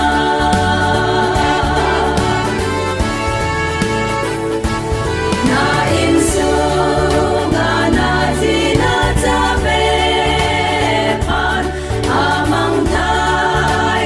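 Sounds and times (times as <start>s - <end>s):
women singing a hymn: 0.0s - 3.0s, 5.4s - 14.0s.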